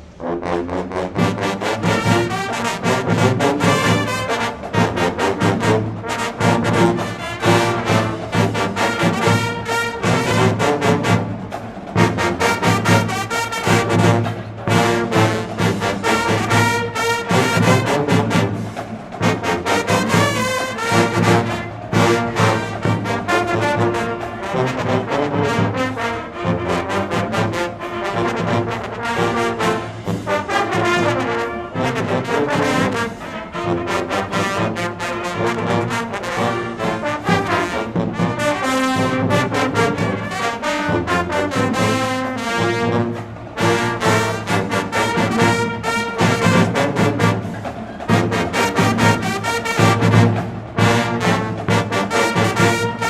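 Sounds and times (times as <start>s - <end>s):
brass band playing: 0.0s - 53.0s
steady percussion beat: 0.0s - 53.0s.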